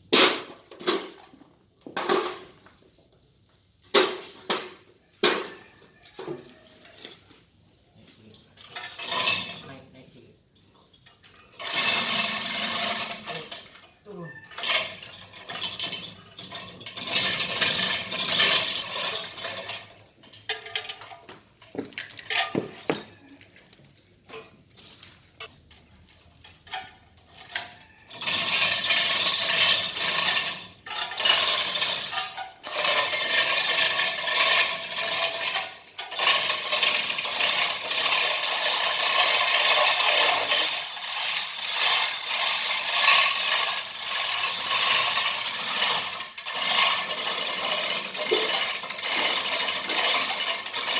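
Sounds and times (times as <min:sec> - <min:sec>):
metal tools clinking and rattling: 0:08.0 - 0:50.9
dense continuous metallic noise: 0:08.2 - 0:50.9.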